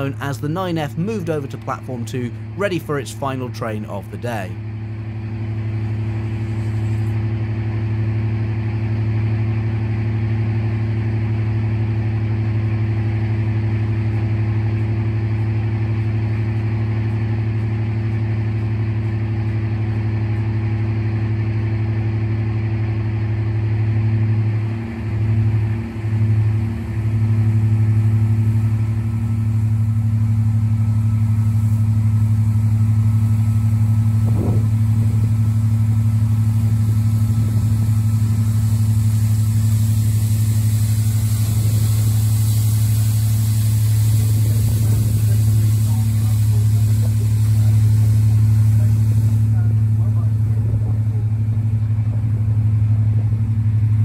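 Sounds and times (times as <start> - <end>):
diesel locomotive engines idling: 0.0 - 54.0.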